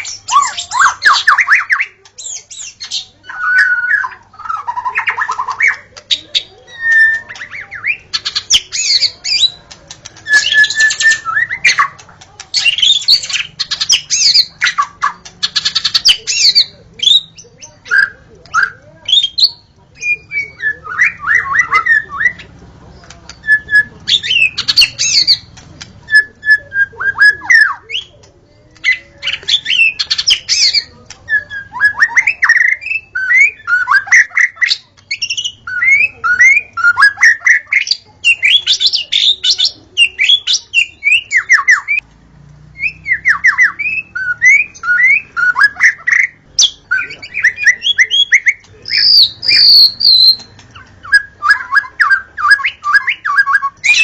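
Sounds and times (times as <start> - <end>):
songbird whistles trills and rattles: 0.0 - 42.0, 42.7 - 54.0.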